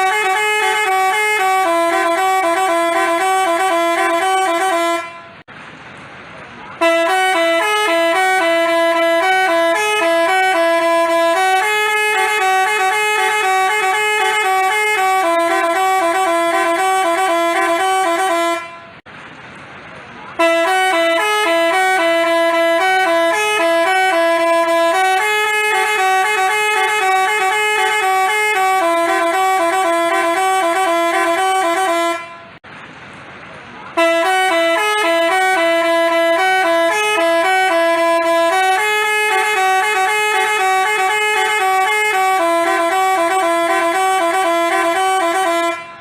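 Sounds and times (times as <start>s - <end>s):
musical bus horn melody: 0.0s - 5.5s, 6.7s - 19.1s, 20.3s - 32.6s, 33.9s - 46.0s.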